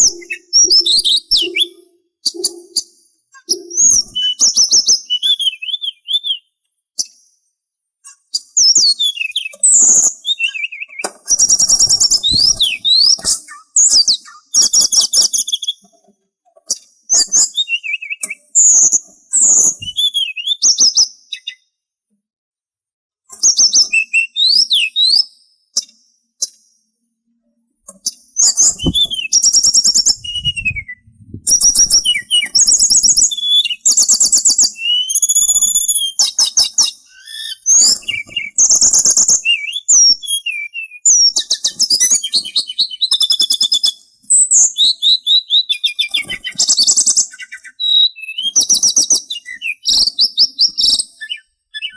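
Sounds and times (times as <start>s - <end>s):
songbird singing: 0.0s - 7.1s, 8.1s - 15.9s, 16.8s - 21.7s, 28.0s - 51.9s.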